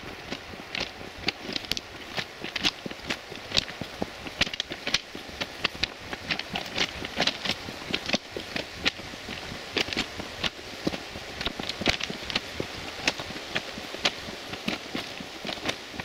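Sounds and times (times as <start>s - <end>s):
footsteps crunching on ballast: 0.0s - 16.0s
outdoor hiss: 0.0s - 16.0s.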